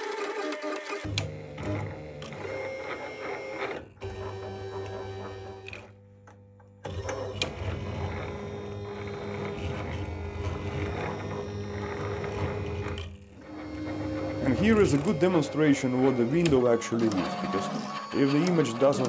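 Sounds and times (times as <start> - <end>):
plotter motors whining: 0.0 - 19.0.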